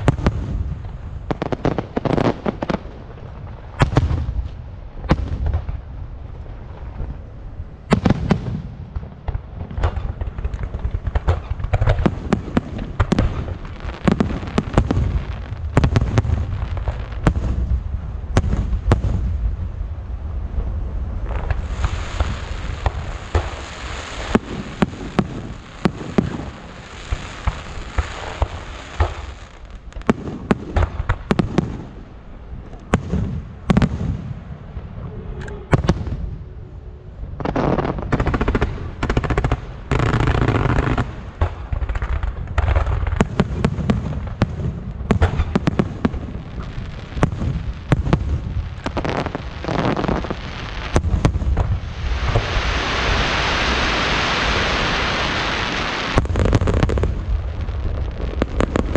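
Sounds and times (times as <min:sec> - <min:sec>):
fireworks rumbling and crackling: 0:00.0 - 0:58.9.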